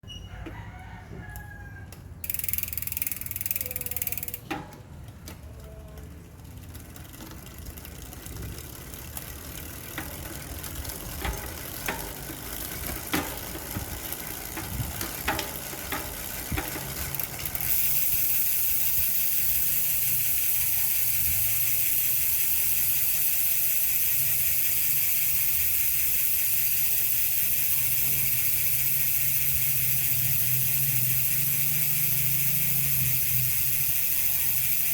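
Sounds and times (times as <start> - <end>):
bicycle freehub clicking: 1.4 - 34.9.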